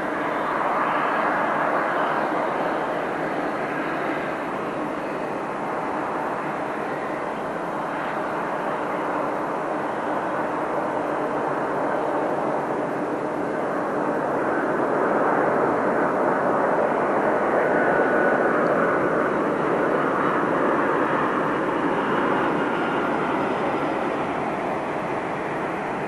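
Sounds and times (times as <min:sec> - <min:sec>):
faint whine: 0:00.0 - 0:26.0
jet engines at taxi power: 0:00.0 - 0:26.0.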